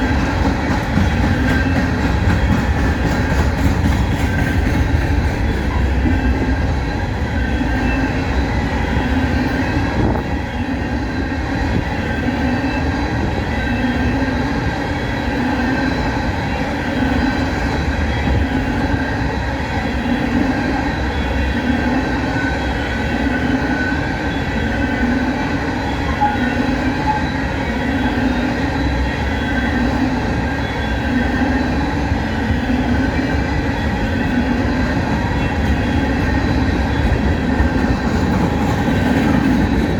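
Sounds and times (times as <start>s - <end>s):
freight train rolling on rails: 0.0s - 39.9s.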